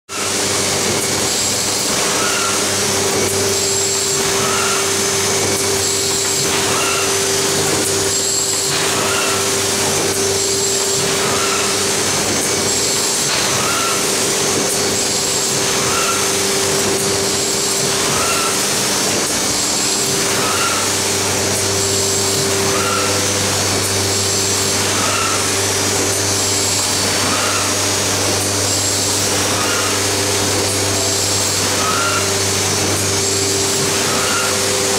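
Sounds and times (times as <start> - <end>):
faint machine stroke: 0.1 - 34.9
machine humming: 0.1 - 34.9.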